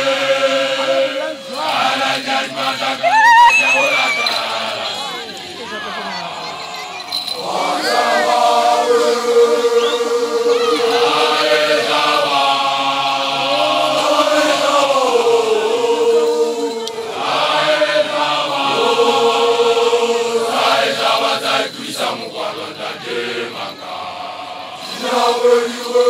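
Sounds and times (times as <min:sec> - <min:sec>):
male voices chanting in unison: 0:00.0 - 0:06.6, 0:07.3 - 0:26.0.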